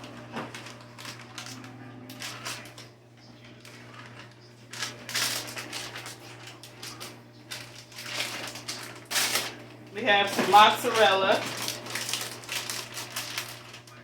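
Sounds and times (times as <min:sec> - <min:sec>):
crinkly rustle: 0:00.0 - 0:14.0.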